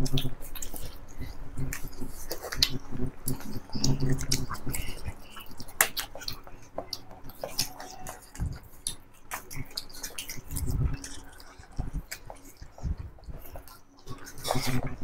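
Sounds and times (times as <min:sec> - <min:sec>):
wet chewing and lip smacks: 0:00.0 - 0:14.9.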